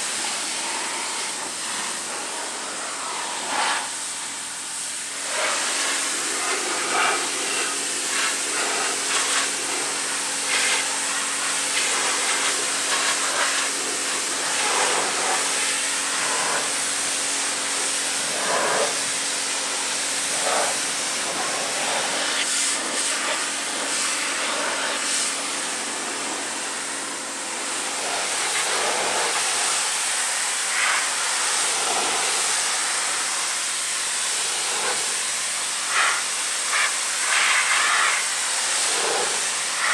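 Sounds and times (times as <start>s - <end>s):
motor and pump humming: 0.0s - 37.0s
pressure washer spraying car: 0.0s - 39.9s.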